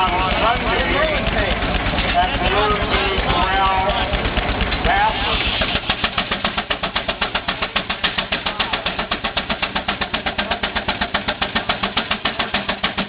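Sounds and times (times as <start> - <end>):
steam engine exhaust chuffing: 0.0 - 13.0.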